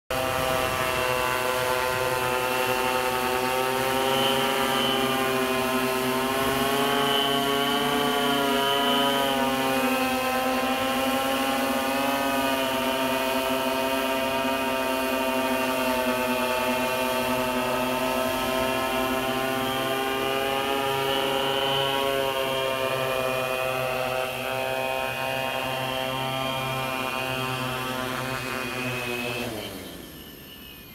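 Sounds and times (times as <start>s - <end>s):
drone motors buzzing: 0.1s - 30.9s.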